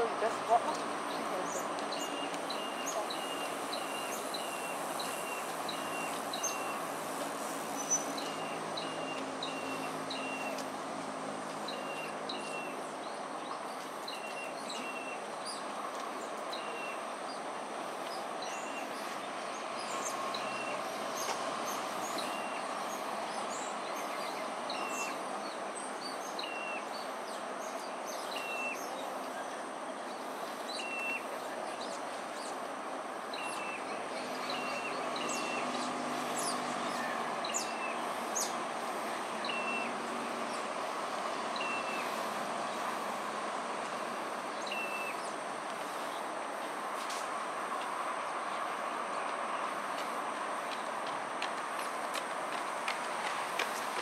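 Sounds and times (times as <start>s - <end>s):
steady rushing background noise: 0.0s - 54.0s.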